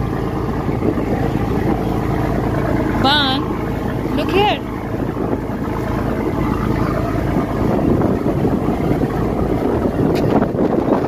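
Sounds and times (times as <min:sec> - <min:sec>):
boat engine drone: 0:00.0 - 0:11.0
water rushing past hull: 0:00.0 - 0:11.0
wind buffeting microphone: 0:00.0 - 0:11.0.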